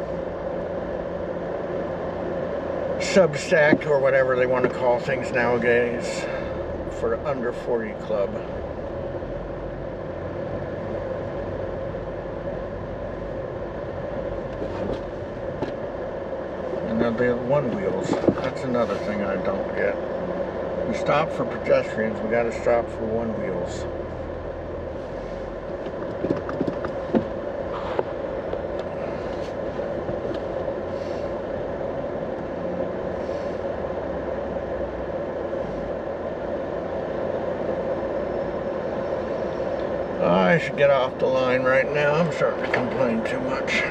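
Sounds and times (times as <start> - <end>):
road and engine hum: 0.0 - 43.9
vehicle rumble inside car: 0.0 - 43.9.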